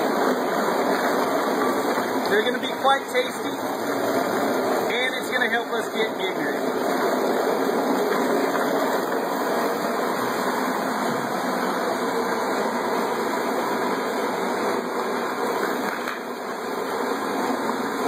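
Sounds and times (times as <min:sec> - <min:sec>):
garbage disposal churning ice: 0:00.0 - 0:18.0.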